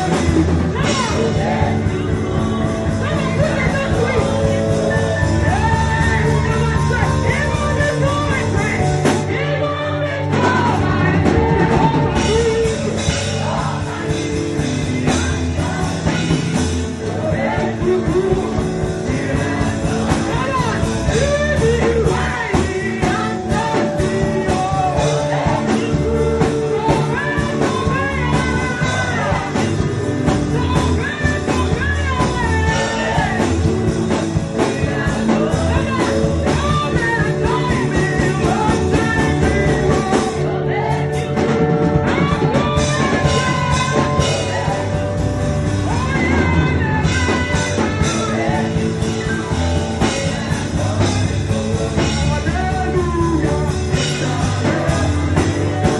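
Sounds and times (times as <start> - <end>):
band playing worship music: 0.0 - 55.9
person singing: 0.0 - 55.9.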